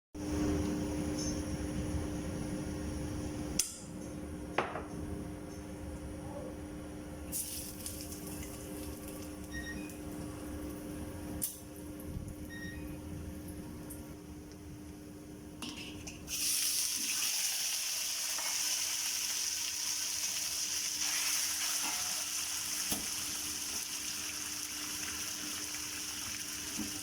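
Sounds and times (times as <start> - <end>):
mechanical kitchen hum: 0.2 - 27.0.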